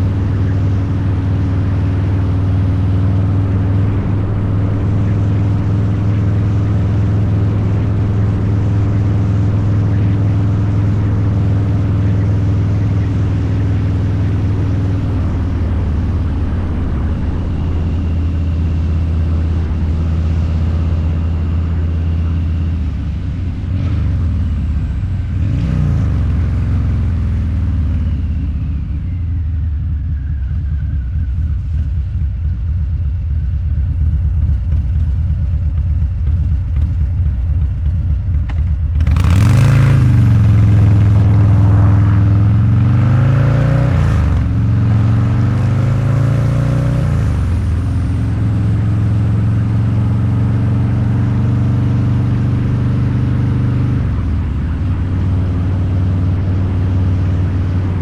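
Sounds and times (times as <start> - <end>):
motorcycle engine revving: 0.0 - 29.2, 34.1 - 58.0.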